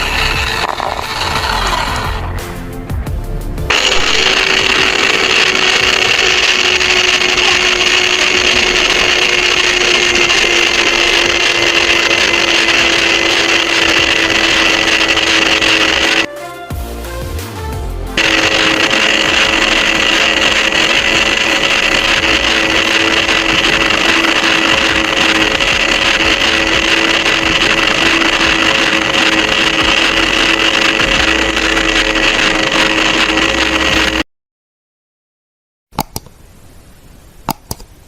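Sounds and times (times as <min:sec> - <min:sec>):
small motor whirring: 0:00.0 - 0:02.3, 0:03.7 - 0:16.3, 0:18.2 - 0:34.2.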